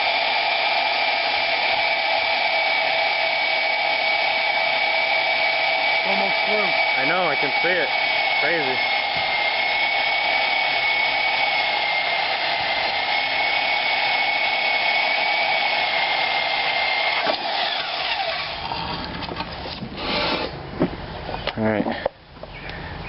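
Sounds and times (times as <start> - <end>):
bandsaw cutting steel: 0.0 - 19.3.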